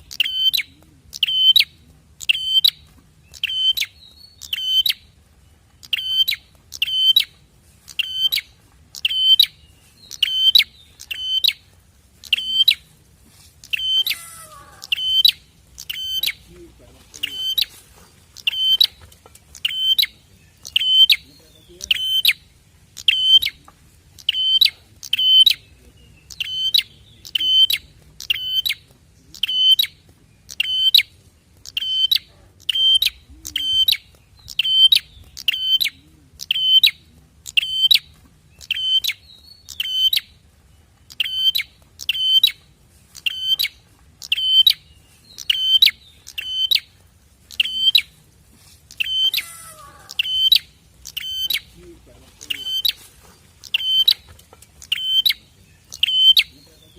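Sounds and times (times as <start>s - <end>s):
bird song piercing notes: 0.0s - 12.9s, 13.6s - 16.5s, 17.1s - 40.4s, 41.0s - 48.2s, 48.9s - 56.9s
soft bird twittering: 0.0s - 48.2s, 48.8s - 56.9s.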